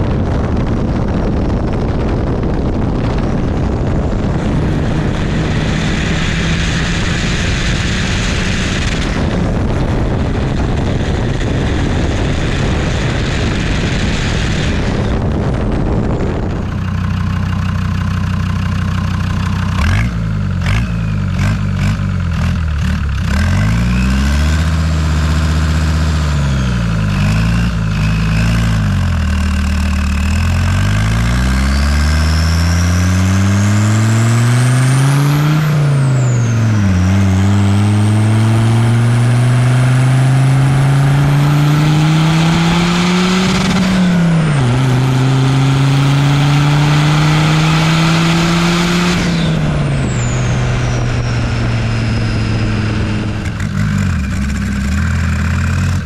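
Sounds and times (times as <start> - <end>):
diesel engine accelerating: 0.0 - 56.0.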